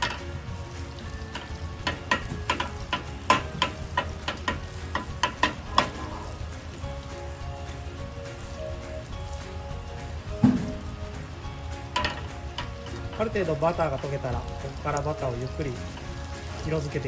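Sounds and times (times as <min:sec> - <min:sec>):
butter sizzling in saucepan: 0:00.0 - 0:17.0.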